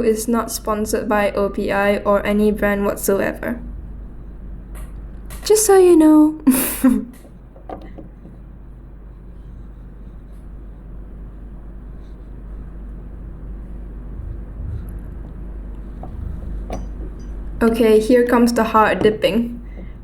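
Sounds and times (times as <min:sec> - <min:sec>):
low background rumble and hum: 0:00.0 - 0:20.0.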